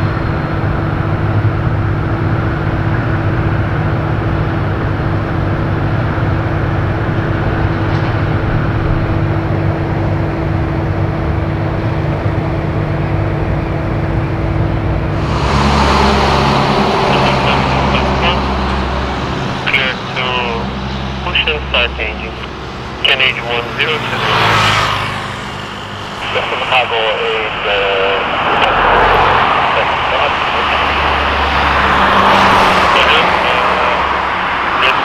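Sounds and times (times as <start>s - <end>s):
loud rushing noise: 0.0s - 35.0s
machinery humming and hissing: 0.0s - 35.0s.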